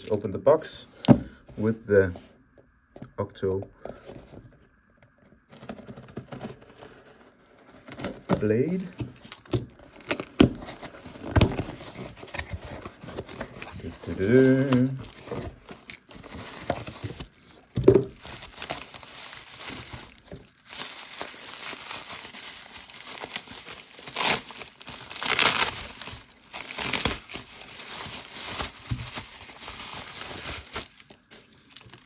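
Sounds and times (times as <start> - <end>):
packaging crinkling: 5.4 - 32.0.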